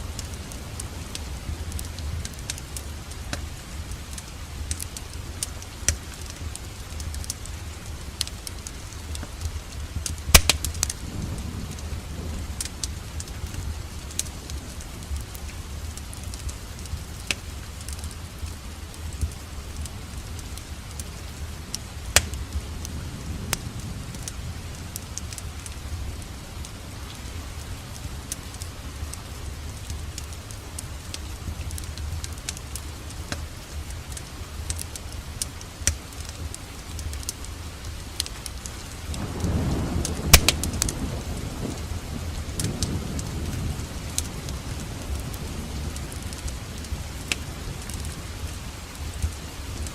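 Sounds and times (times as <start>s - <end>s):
steady rain: 0.0s - 49.9s
wood fire crackling and popping: 0.0s - 49.9s.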